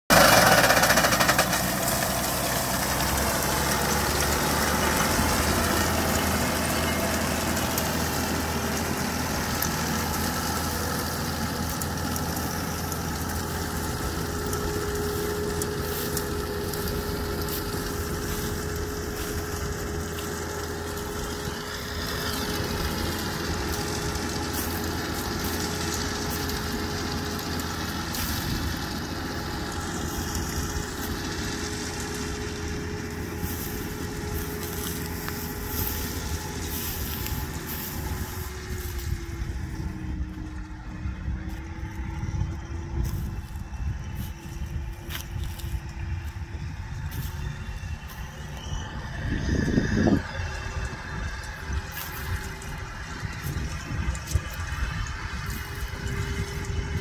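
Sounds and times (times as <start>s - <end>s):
steady mechanical whine: 0.0s - 57.0s
tractor diesel engine running: 0.0s - 57.0s.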